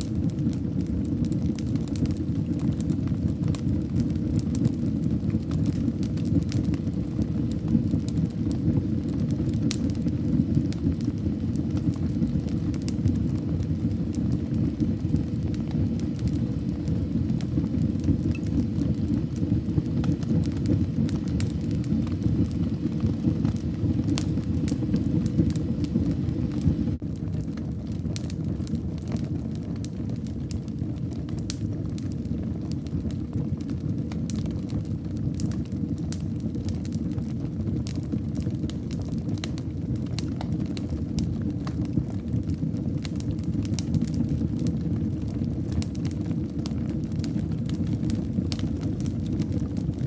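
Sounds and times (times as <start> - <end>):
fire crackling in fireplace: 0.0 - 50.0.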